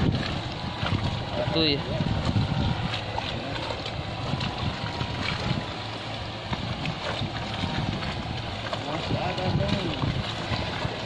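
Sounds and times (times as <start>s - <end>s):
boat engine low rumble: 0.0s - 11.0s
water sloshing against hull: 0.0s - 11.0s
wind on microphone: 0.0s - 11.0s.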